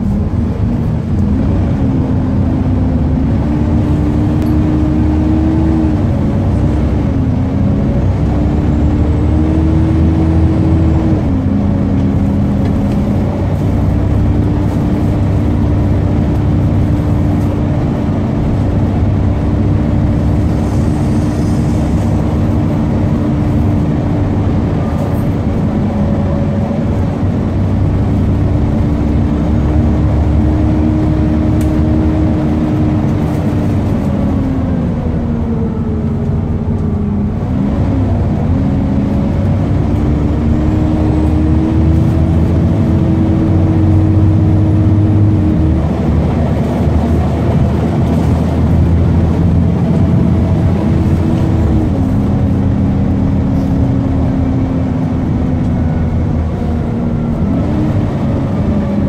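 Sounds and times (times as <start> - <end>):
bus cooling fans droning: 0.0 - 59.0
bus engine rumble: 0.0 - 59.0
road noise: 0.0 - 59.0.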